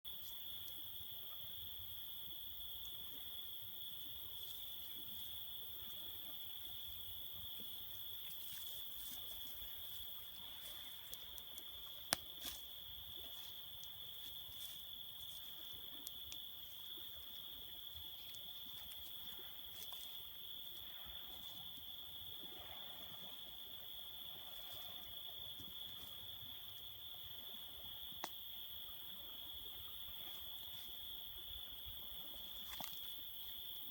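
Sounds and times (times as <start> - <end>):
night insects chirring: 0.1 - 33.9.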